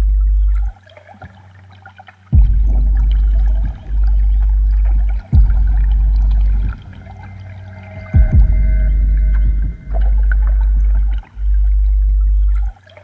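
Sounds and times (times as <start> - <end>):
deep sub-bass tones: 0.0 - 0.8, 2.4 - 12.8.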